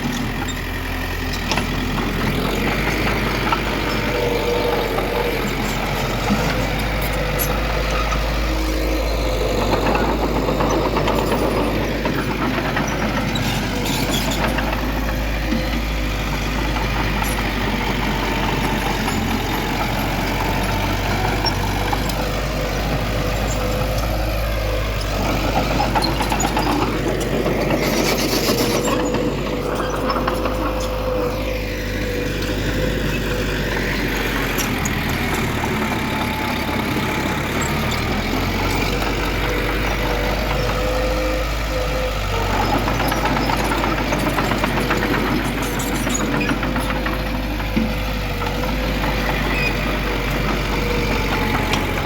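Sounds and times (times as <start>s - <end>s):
diesel machinery engine running: 0.0s - 52.0s.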